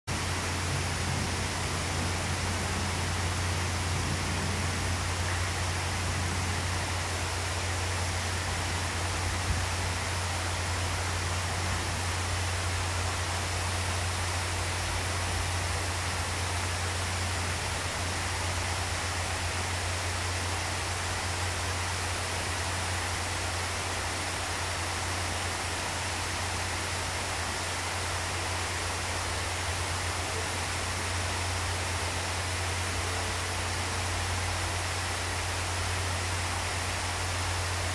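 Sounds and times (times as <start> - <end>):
fountain water rushing: 0.1 - 37.9.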